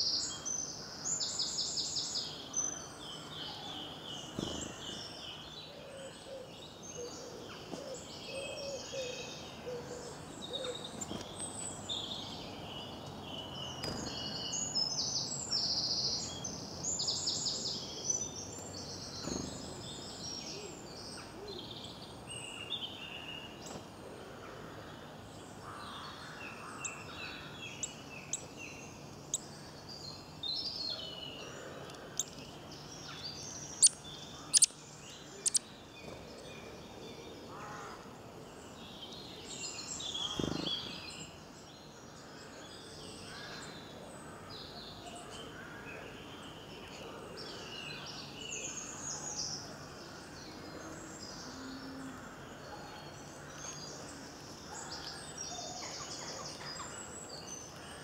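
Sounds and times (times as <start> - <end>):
small birds singing: 0.0 - 58.0.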